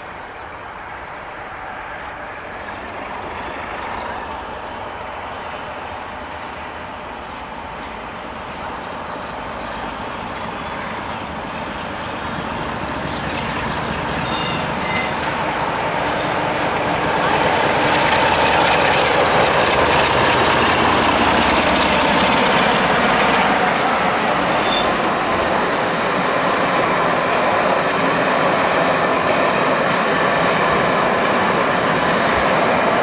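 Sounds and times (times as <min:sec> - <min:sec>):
diesel locomotive engine passing: 0:00.0 - 0:33.0.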